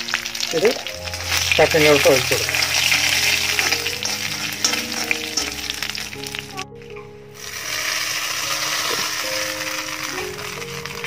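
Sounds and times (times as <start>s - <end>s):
hot oil sizzling in a pan: 0.0s - 6.6s, 7.4s - 11.0s.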